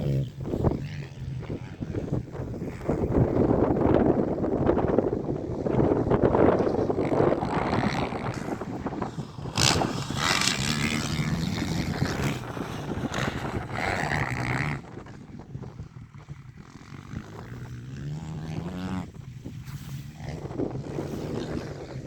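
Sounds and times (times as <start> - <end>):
motocross bike engines revving: 0.0 - 22.0
wind buffeting microphone: 0.0 - 22.0.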